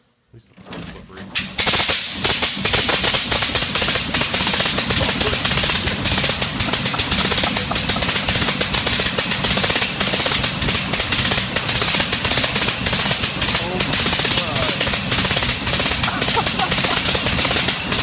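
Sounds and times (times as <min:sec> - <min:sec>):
rotary engine exhaust pops: 0:01.4 - 0:18.0.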